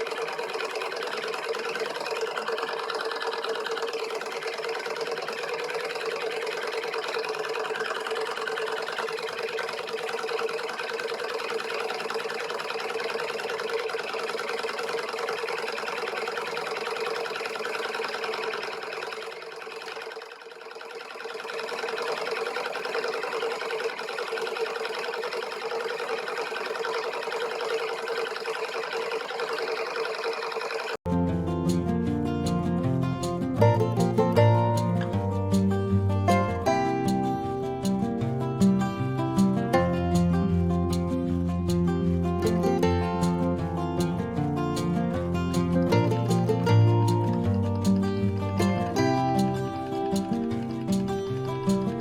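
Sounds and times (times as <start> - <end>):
engine mechanical clatter: 0.0 - 52.0.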